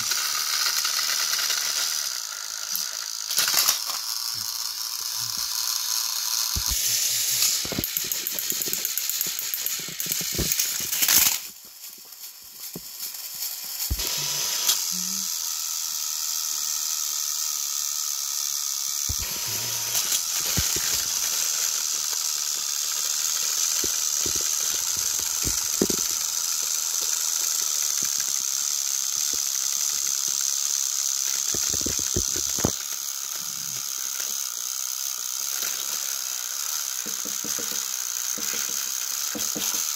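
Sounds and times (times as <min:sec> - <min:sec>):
toy train motors whirring: 0:00.0 - 0:39.9
toy wheels clicking and rattling: 0:00.0 - 0:39.9.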